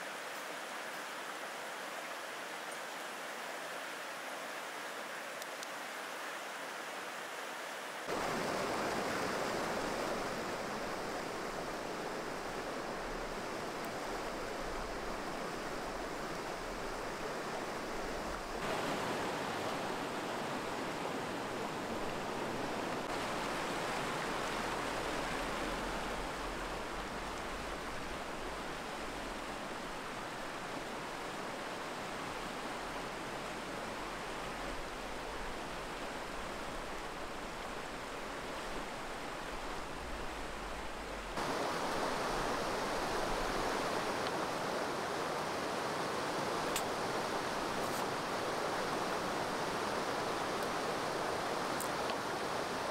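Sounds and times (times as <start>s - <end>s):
stream rushing: 0.0s - 52.9s.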